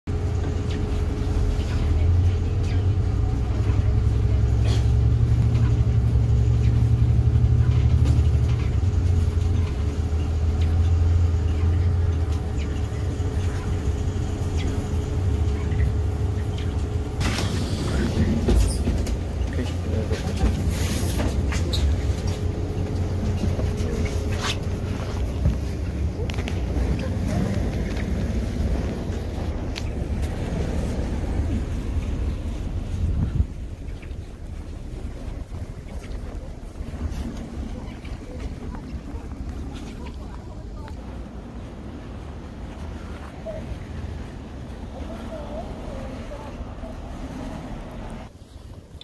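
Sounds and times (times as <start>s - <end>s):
bus engine rumble: 0.0s - 49.0s
constant whine: 0.1s - 49.0s.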